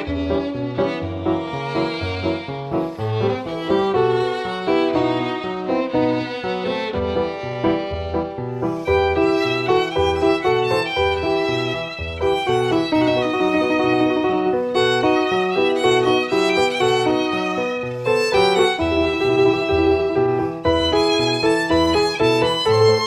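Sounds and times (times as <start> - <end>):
instrumental background music: 0.0 - 23.0.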